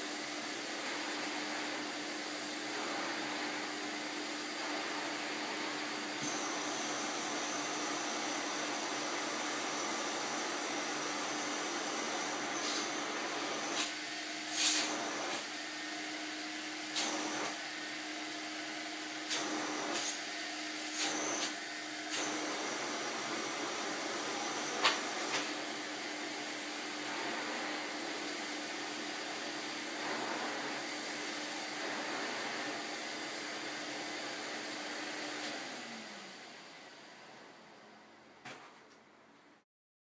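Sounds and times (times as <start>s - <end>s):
vacuum cleaner running: 0.0s - 38.6s.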